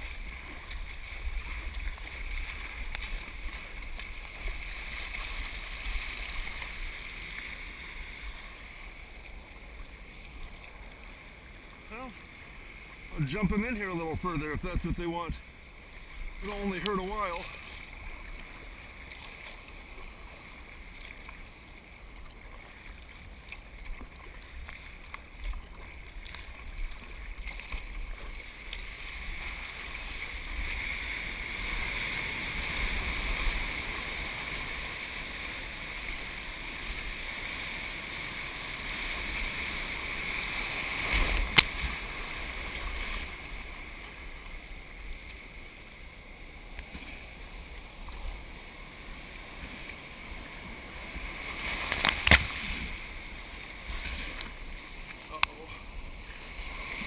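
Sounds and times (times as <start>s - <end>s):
water rushing around a kayak: 0.0s - 57.0s.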